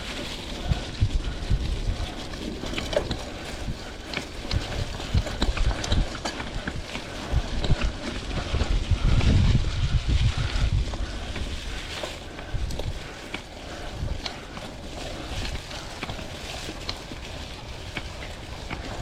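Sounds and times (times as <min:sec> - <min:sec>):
low rumble: 0:00.0 - 0:16.5
bike clicks and rattles: 0:00.0 - 0:19.0
bike tyres on dirt trail: 0:00.0 - 0:19.0.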